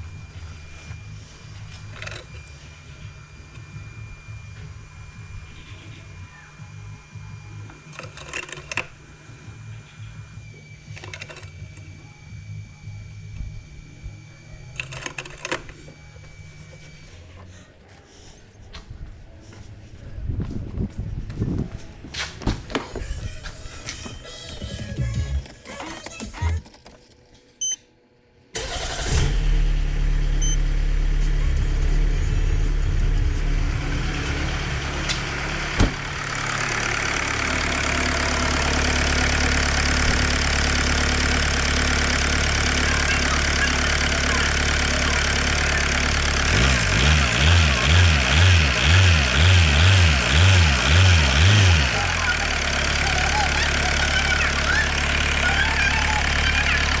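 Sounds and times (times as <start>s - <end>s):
diesel engine idling: 0.0s - 18.4s, 28.6s - 57.0s
diesel engine starting: 0.0s - 18.4s, 28.6s - 57.0s.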